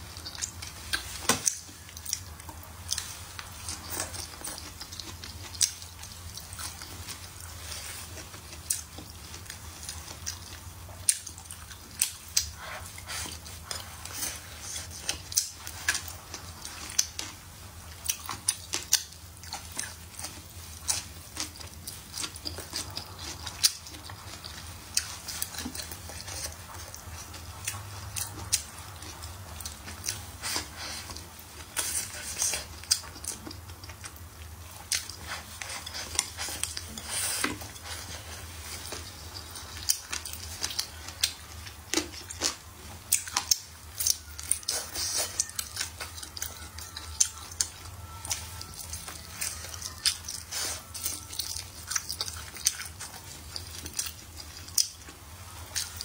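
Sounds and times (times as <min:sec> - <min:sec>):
low steady hum: 0:00.0 - 0:56.0
person chewing: 0:00.0 - 0:56.0.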